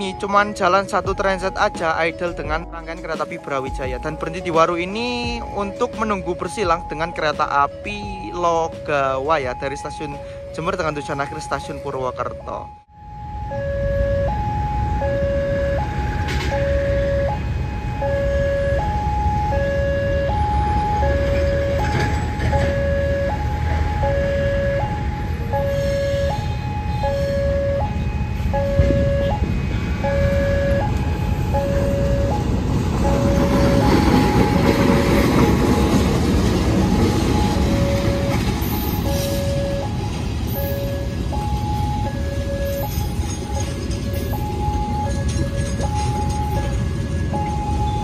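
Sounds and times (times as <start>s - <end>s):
diesel locomotive engine: 0.0s - 48.0s
level crossing two-tone alarm: 0.0s - 48.0s.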